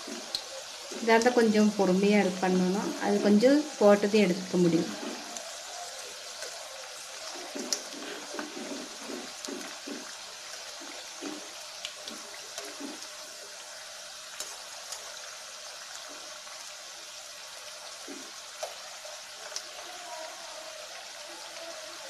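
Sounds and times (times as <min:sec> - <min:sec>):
oil sizzling: 0:00.0 - 0:22.0
skimmer stirring through oil: 0:00.0 - 0:22.0.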